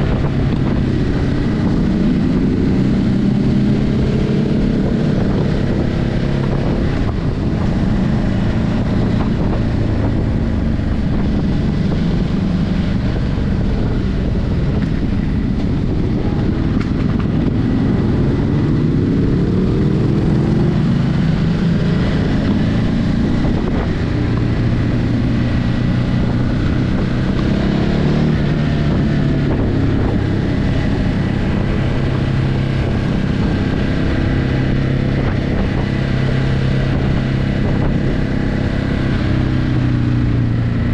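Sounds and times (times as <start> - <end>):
motorcycle engine while riding: 0.0 - 40.9
wind noise on microphone: 0.0 - 40.9.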